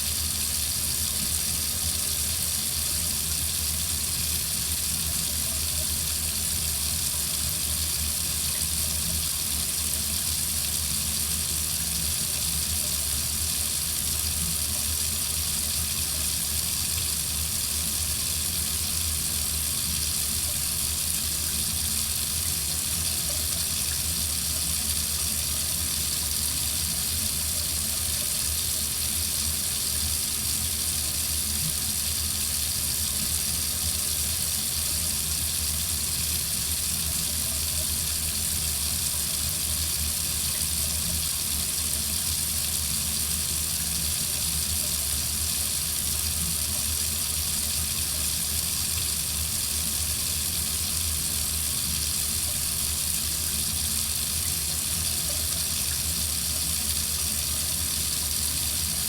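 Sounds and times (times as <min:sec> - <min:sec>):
water running from faucet: 0:00.0 - 0:59.0.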